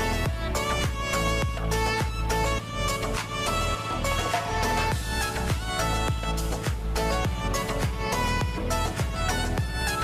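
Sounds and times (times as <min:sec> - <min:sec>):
music with low thumping beat: 0:00.0 - 0:10.0.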